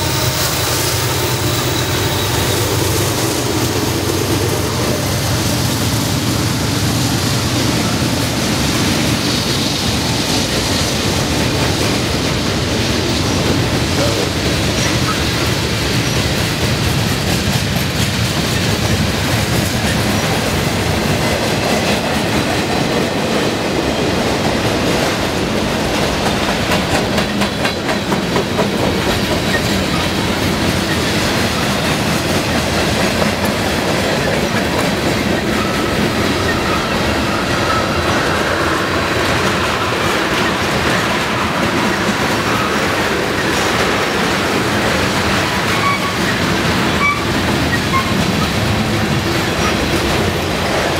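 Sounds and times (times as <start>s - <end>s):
train wheels clacking on rails: 0.0s - 50.9s.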